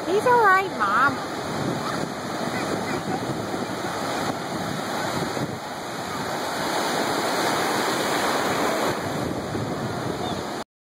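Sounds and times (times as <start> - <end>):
ocean surf breaking: 0.0 - 10.6.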